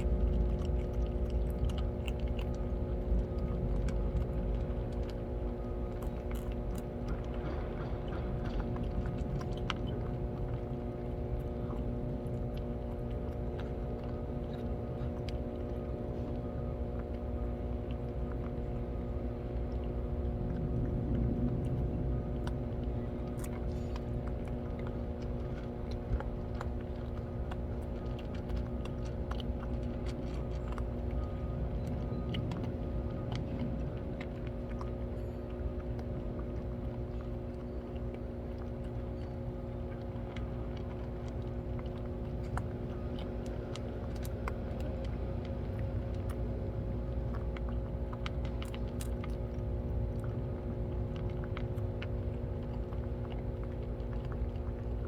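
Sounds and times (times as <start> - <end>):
cats crunching food: 0.0 - 55.0
low mechanical hum: 0.0 - 55.0.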